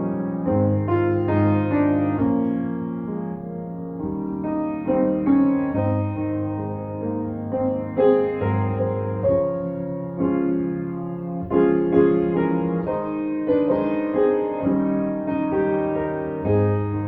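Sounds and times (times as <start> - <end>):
slow piano piece: 0.0 - 17.0.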